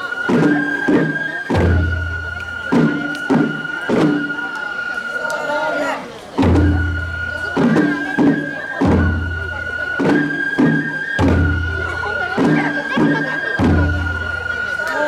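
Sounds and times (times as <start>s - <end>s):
high held piping tone: 0.0s - 6.0s, 6.6s - 15.0s
deep drum strikes: 0.3s - 4.4s, 6.4s - 14.8s.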